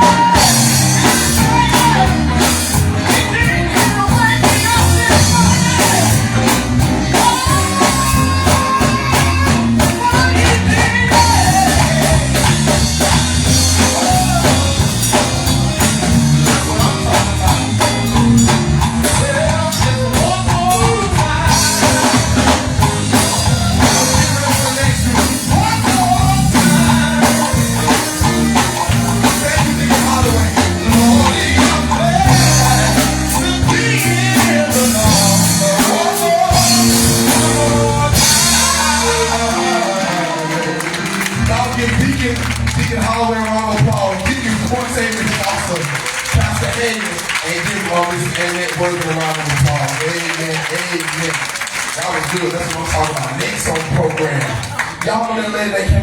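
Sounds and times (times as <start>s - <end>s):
person singing: 0.0s - 45.8s
guitar: 0.0s - 49.0s
bass: 0.0s - 51.4s
drum kit: 0.0s - 55.0s.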